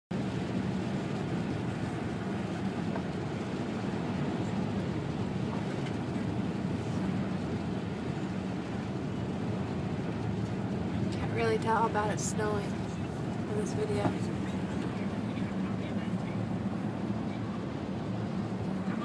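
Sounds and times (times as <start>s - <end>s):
car road and engine noise: 0.1s - 19.0s.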